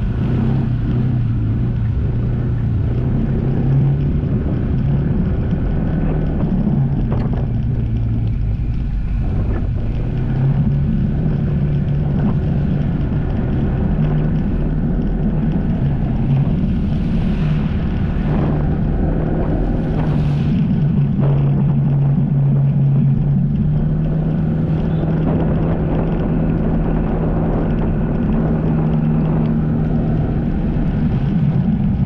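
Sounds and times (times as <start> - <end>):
jet ski engine running: 0.0 - 32.0.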